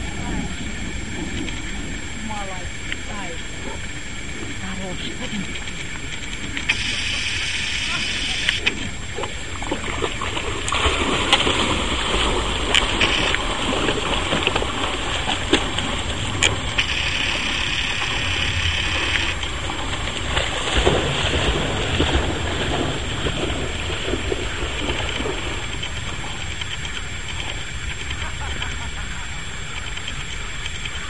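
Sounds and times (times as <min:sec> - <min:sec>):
low rumble: 0:00.0 - 0:31.0
water splashing and sloshing: 0:00.0 - 0:31.0.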